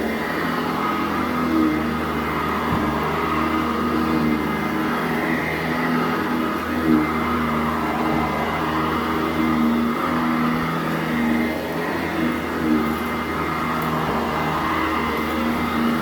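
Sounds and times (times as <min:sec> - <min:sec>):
upright vacuum cleaner on carpet: 0:00.0 - 0:16.0.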